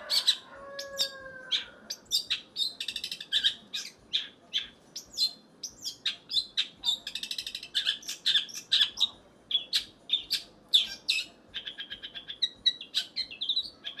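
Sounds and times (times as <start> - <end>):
bird singing chirps and trills: 0.0 - 14.0.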